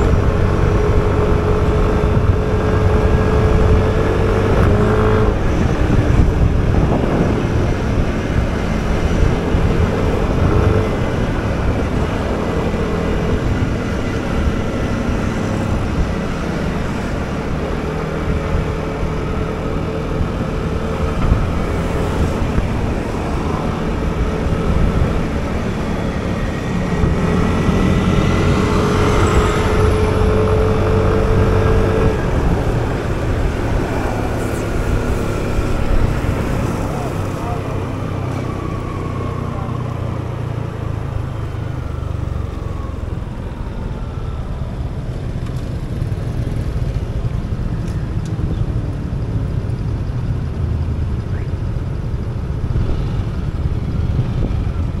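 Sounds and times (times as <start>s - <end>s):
wind rumble on microphone: 0.0s - 55.0s.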